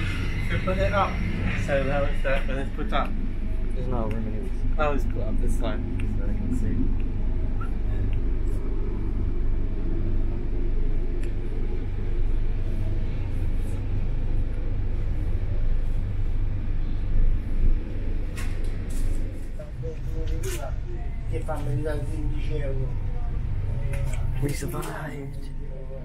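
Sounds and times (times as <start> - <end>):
train rumbling along track: 0.0 - 7.6, 8.3 - 26.0.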